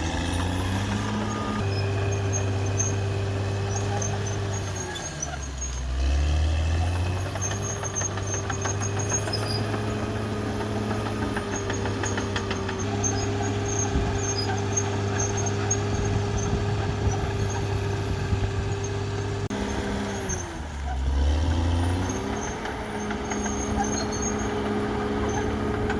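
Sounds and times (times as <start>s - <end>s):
bulldozer diesel engine running: 0.0s - 25.9s.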